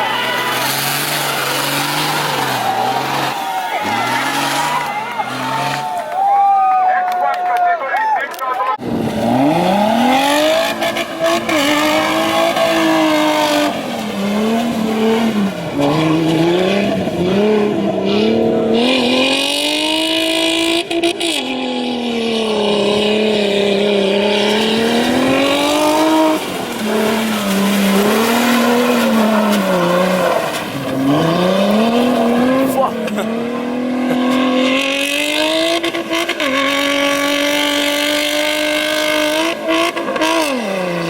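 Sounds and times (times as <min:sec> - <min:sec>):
off-road engine revving: 0:00.0 - 0:06.2, 0:08.4 - 0:41.0.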